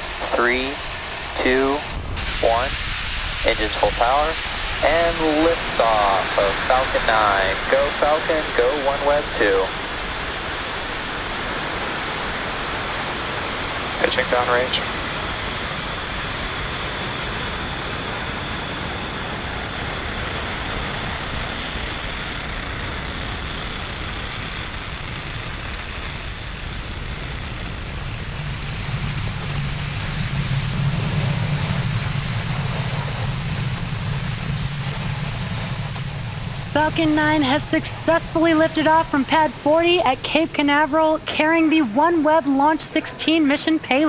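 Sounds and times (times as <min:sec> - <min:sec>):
deep low rumble: 0:00.0 - 0:44.0
rocket engines rushing: 0:00.0 - 0:44.0.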